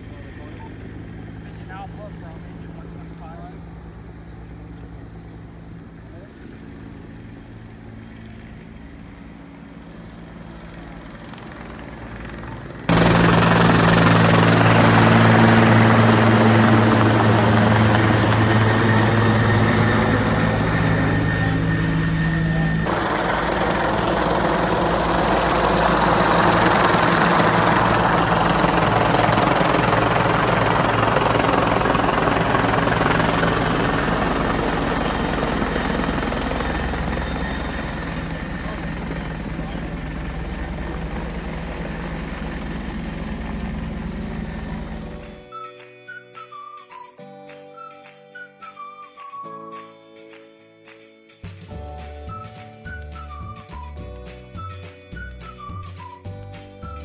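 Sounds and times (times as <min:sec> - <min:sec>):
helicopter rotor: 0:00.0 - 0:45.6.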